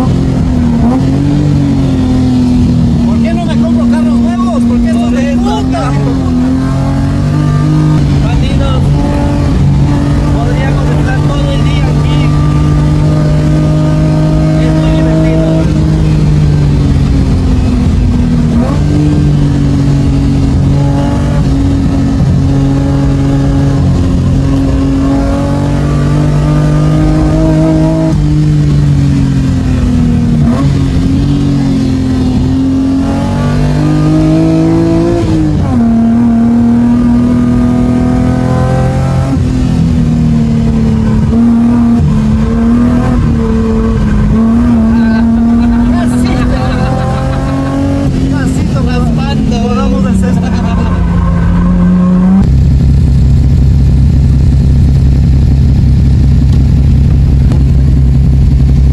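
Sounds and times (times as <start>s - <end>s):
car engine driven hard: 0.0s - 58.9s.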